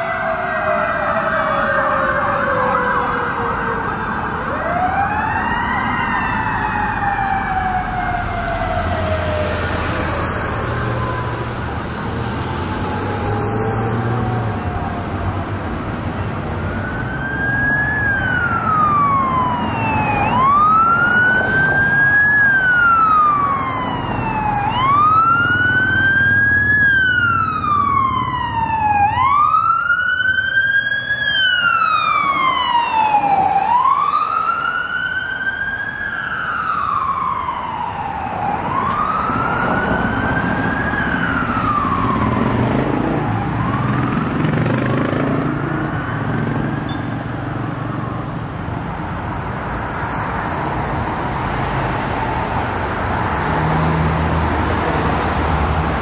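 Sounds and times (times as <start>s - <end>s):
ambulance siren wailing: 0.0s - 56.0s.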